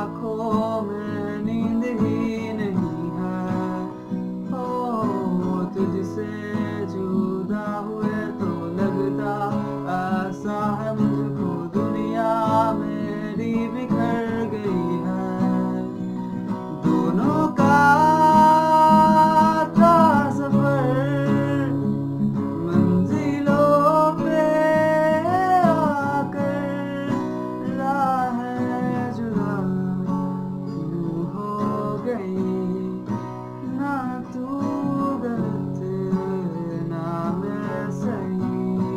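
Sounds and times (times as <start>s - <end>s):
man singing a ballad: 0.0s - 38.9s
strummed acoustic guitar: 0.0s - 38.9s.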